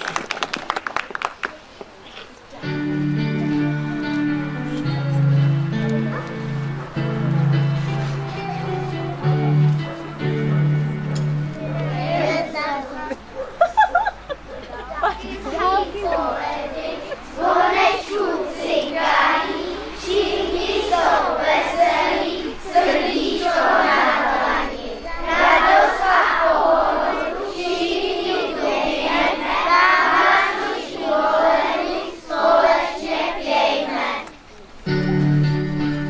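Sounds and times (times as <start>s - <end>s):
children's choir singing: 3.1s - 34.3s.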